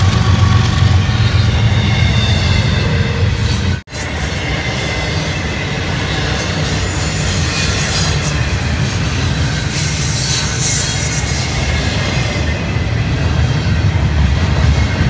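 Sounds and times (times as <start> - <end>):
high wheel squeal: 0.0 - 15.0
train wheels rumbling on rail: 0.0 - 15.0.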